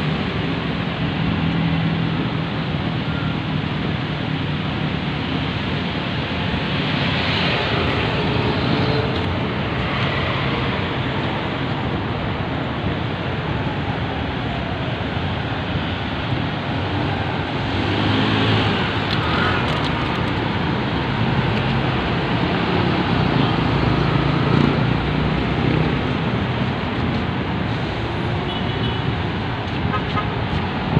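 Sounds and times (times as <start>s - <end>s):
city road traffic: 0.0s - 30.9s.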